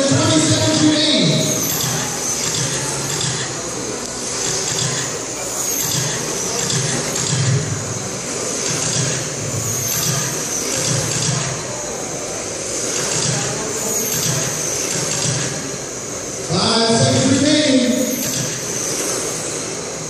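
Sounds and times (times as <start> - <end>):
electric rc cars whining: 0.0 - 20.0
voices in a hall: 0.0 - 20.0.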